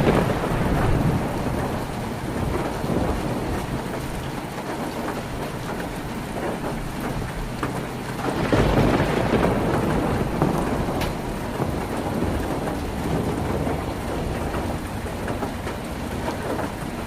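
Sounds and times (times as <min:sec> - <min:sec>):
heavy rain on a tin roof: 0:00.0 - 0:17.0.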